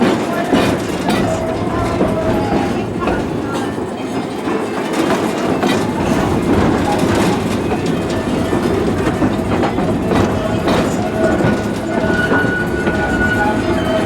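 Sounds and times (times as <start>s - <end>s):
train cars rumbling on track: 0.0s - 14.0s
wheels clickety-clack: 0.0s - 14.0s.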